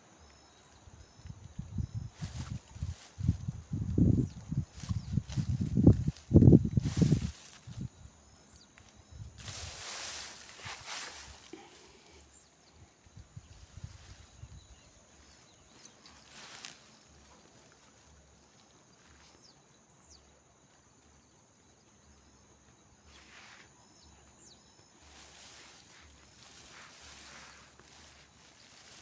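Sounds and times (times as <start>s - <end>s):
faint high chirps: 0.0s - 20.4s, 23.1s - 29.0s.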